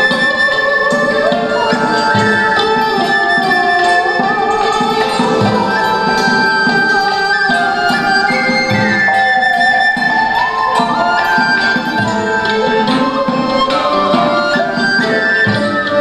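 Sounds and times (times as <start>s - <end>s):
sliding pitch melody: 0.0s - 16.0s.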